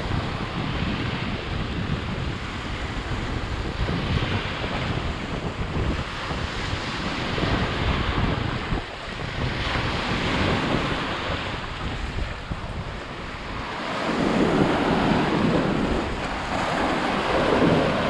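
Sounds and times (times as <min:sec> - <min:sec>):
sea surf washing in: 0:00.0 - 0:18.0
wind buffeting microphone: 0:00.0 - 0:18.0.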